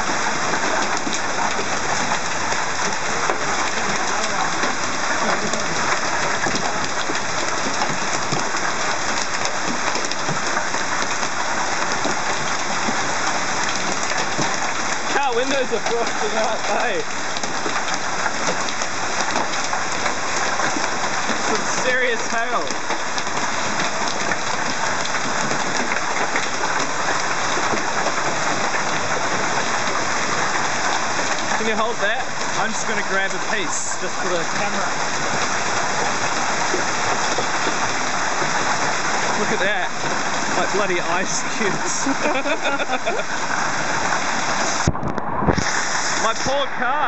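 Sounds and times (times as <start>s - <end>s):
hail pelting ground and cars: 0.0s - 47.0s.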